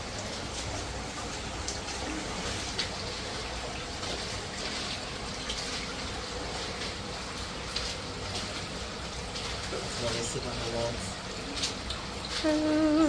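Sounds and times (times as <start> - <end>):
trickling rushing water: 0.0 - 13.0
faint drip-like ticks: 0.1 - 13.0.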